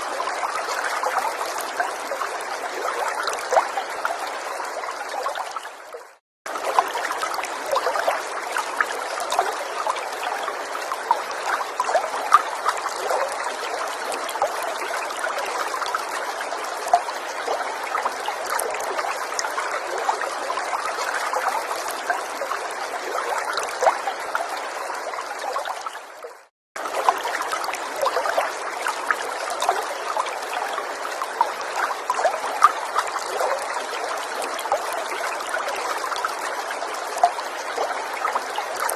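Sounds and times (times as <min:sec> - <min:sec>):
small stream trickling and babbling: 0:00.0 - 0:38.9
water splashes: 0:00.0 - 0:38.9.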